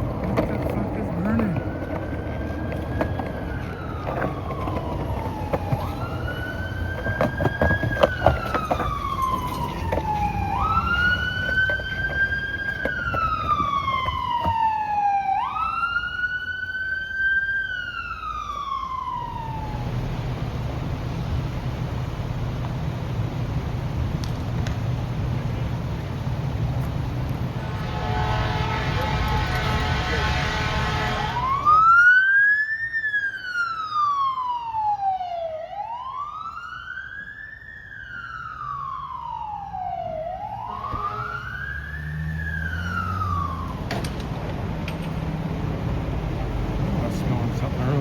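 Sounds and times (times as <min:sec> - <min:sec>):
emergency siren wailing: 0:00.0 - 0:20.8, 0:27.4 - 0:48.0.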